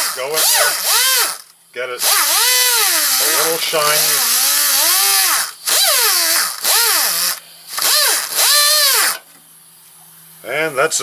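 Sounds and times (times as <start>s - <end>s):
die grinder wire-brushing metal: 0.0s - 9.2s.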